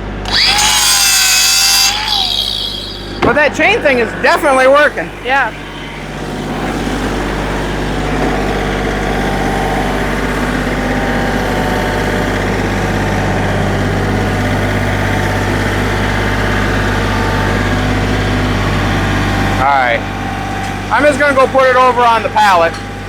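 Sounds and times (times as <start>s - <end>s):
machine engine idling: 0.0s - 23.0s.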